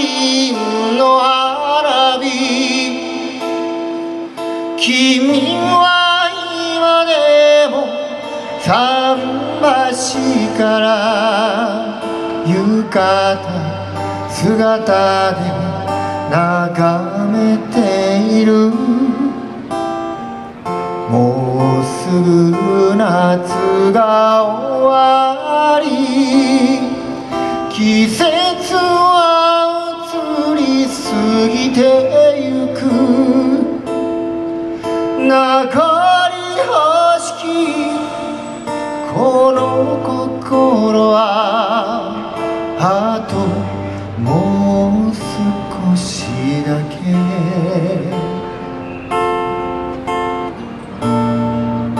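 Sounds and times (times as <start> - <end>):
man singing: 0.0 - 19.7, 21.0 - 34.1, 35.0 - 48.6
strummed acoustic guitar: 0.0 - 51.9.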